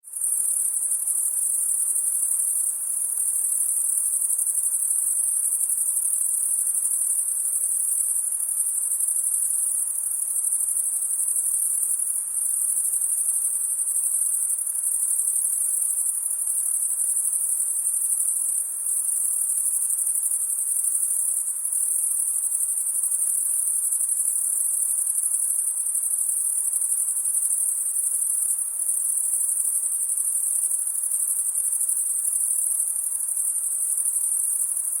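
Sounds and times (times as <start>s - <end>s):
crickets chirping: 0.1s - 35.0s.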